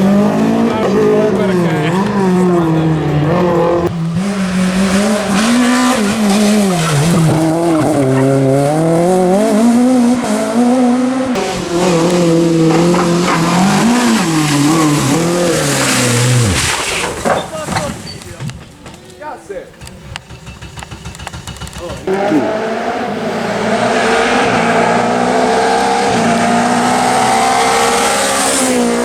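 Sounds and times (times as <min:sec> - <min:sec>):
rally car engine revving: 0:00.0 - 0:17.3, 0:21.6 - 0:29.0
tyres squealing and skidding: 0:00.0 - 0:18.7, 0:21.8 - 0:29.0.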